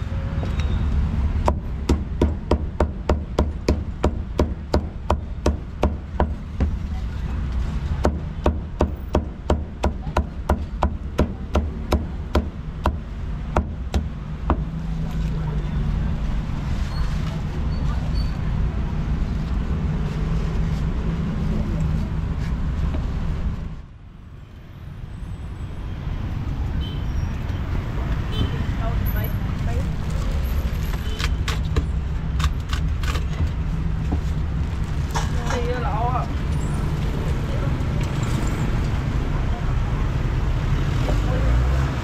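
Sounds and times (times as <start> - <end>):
street traffic rumbling: 0.0 - 42.0.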